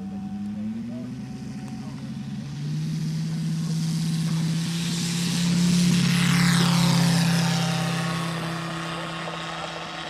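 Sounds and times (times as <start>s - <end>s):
model airplane radial engine: 0.0s - 10.0s.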